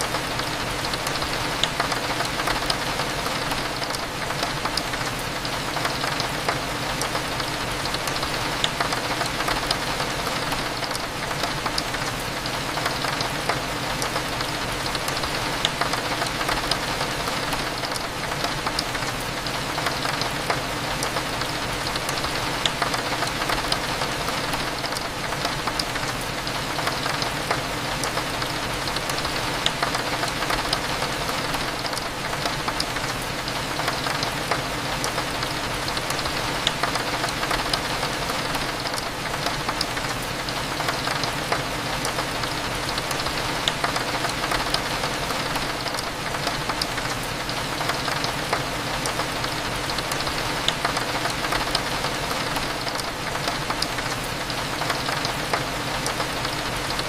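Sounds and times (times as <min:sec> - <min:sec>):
rain drops ticking: 0:00.0 - 0:57.0.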